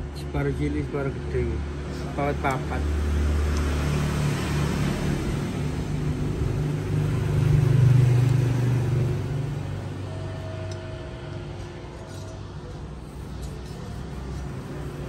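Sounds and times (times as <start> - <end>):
vehicle engine passing: 1.6 - 15.0.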